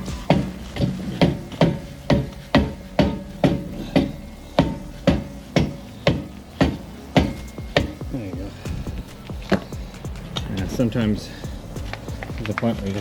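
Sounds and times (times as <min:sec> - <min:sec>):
hammer striking metal drum: 0:00.0 - 0:10.9.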